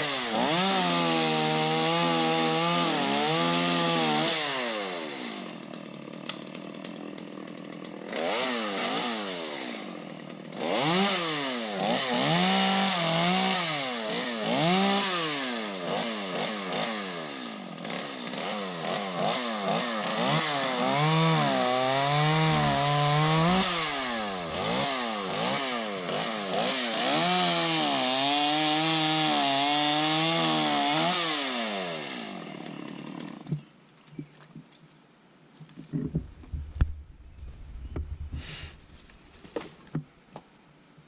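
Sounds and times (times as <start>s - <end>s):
chainsaw cutting wood: 0.0s - 33.7s, 35.9s - 40.0s.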